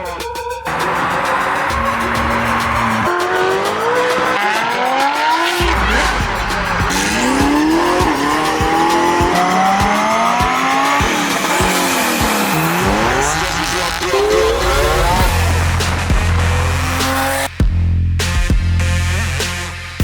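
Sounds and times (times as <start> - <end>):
car engine accelerating: 0.7 - 17.5.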